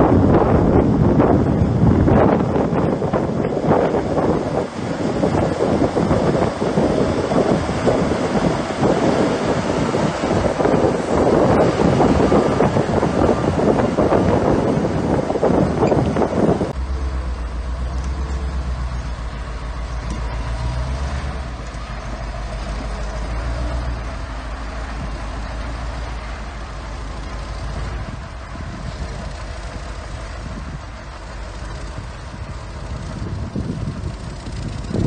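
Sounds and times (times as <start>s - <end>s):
heavy machinery diesel engine rumble: 0.0s - 35.0s.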